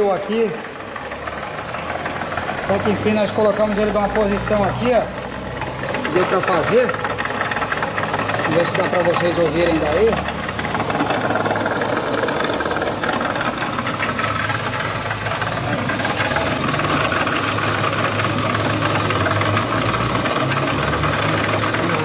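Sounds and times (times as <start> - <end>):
drivetrain noise: 0.0 - 22.0
car running steadily: 0.7 - 22.0.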